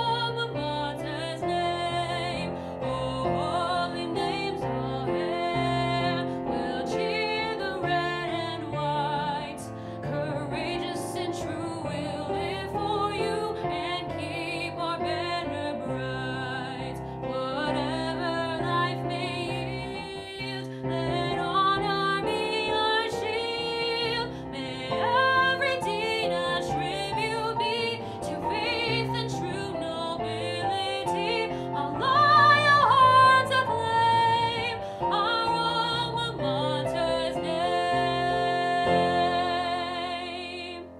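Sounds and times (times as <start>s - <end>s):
piano accompaniment: 0.0s - 40.9s
woman singing with vibrato: 0.0s - 40.9s.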